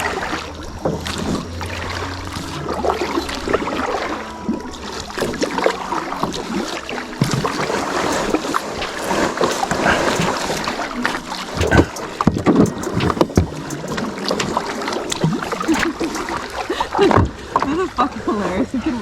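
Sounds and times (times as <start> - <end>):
kayak scraping over sand: 0.0 - 16.6
paddle splashing: 0.0 - 19.0.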